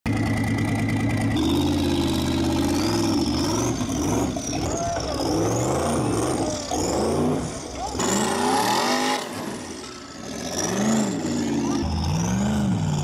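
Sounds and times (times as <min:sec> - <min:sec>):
buggy engine: 0:00.1 - 0:13.0.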